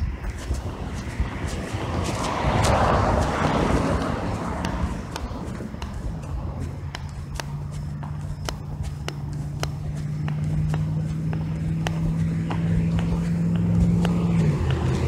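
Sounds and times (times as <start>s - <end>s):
car engine humming: 0.0s - 15.0s
muffled footsteps walking: 0.0s - 15.0s.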